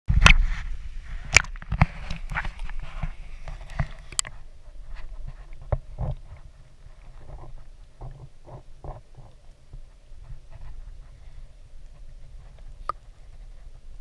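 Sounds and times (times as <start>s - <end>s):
muffled underwater clicks and knocks: 0.2s - 14.0s
low underwater rumble: 0.4s - 14.0s.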